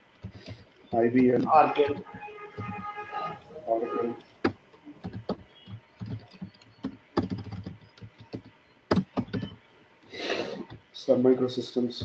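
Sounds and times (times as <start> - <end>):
keyboard typing: 0.0 - 3.4, 4.2 - 10.9.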